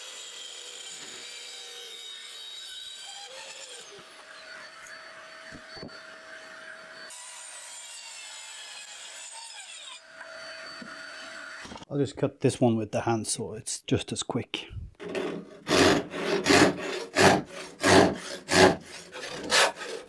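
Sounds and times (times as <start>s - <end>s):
saw cutting wooden board: 0.0s - 11.8s, 15.0s - 20.0s.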